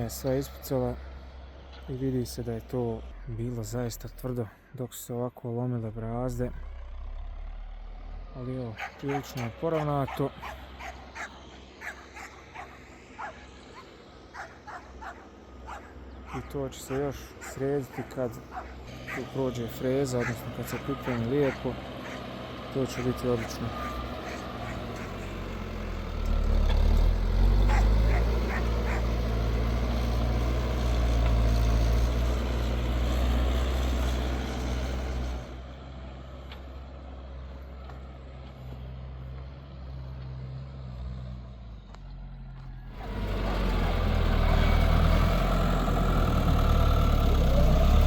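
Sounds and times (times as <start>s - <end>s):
tractor diesel engine drone: 0.0s - 48.0s.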